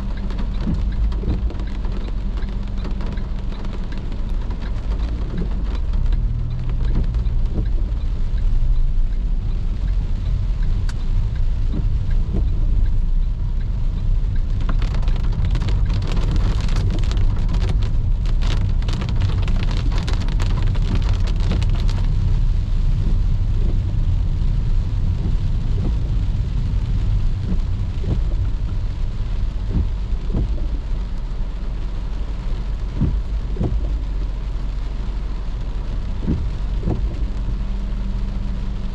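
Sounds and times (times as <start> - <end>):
car engine drone: 0.0 - 38.9
rain pattering on a car: 0.0 - 38.9
tyres on wet road: 0.0 - 38.9.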